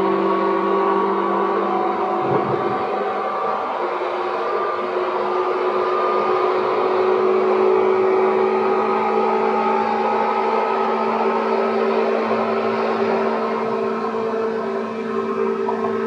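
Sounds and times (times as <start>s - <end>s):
electric train rumbling: 0.0s - 16.0s
humming motor tones: 0.0s - 16.0s.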